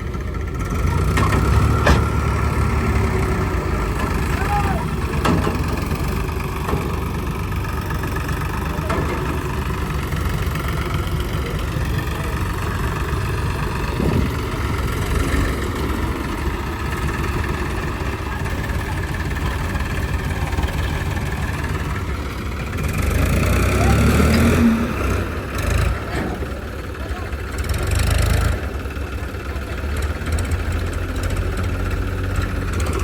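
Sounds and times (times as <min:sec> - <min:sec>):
diesel engine running steadily: 0:00.0 - 0:33.0.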